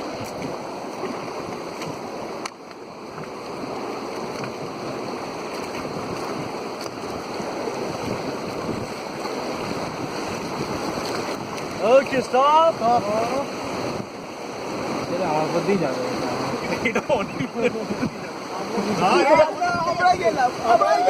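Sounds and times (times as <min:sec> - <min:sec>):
rushing river water: 0:00.0 - 0:21.0.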